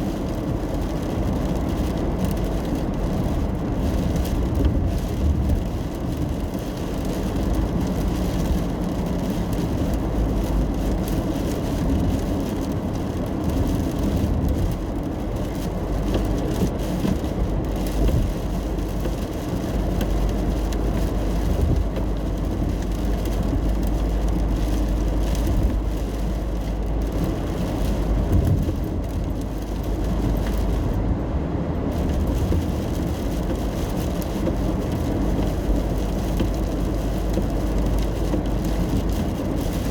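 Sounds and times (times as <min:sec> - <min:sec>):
car engine and tyres rumbling: 0:00.0 - 0:39.9
rain ticking on car: 0:00.0 - 0:39.9.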